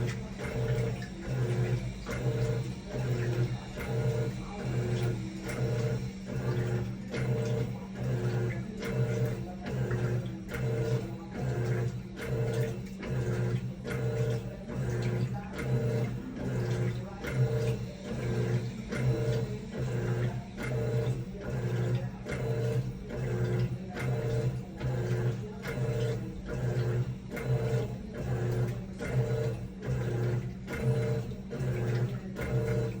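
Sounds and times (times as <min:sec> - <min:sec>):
washing machine motor humming in pulses: 0:00.0 - 0:33.0.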